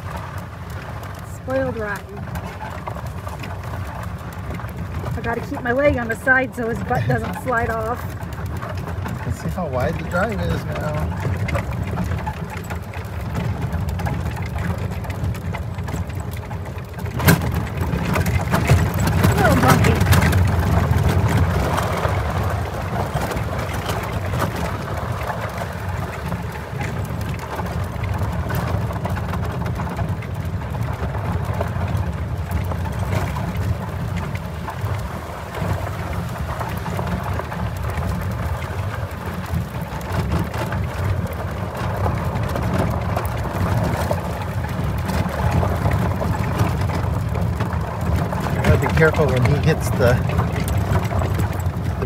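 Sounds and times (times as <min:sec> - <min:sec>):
golf cart rolling over gravel: 0:00.0 - 0:52.0
wind buffeting microphone: 0:00.0 - 0:52.0.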